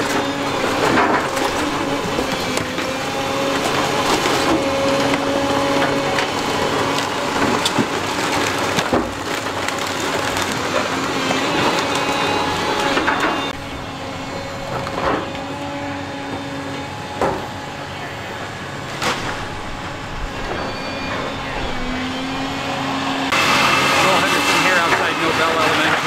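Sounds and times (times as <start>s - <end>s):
building crunching and splintering: 0.0s - 26.0s
excavator diesel engine drone: 0.0s - 26.0s.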